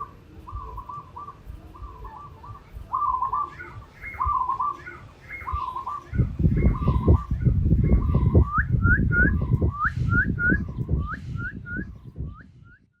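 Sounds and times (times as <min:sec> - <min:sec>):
whistled bird-like chirps: 0:00.5 - 0:13.0.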